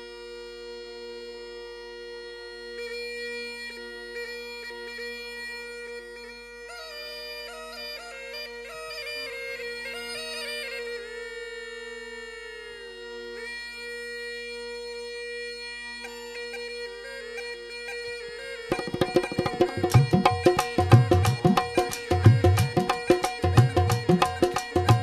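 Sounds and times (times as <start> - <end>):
reedy folk melody: 1.6 - 25.0.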